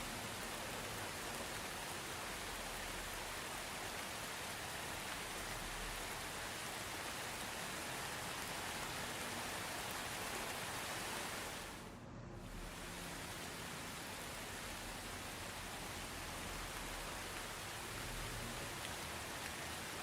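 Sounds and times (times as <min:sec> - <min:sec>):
soft rain falling: 0:00.0 - 0:20.0.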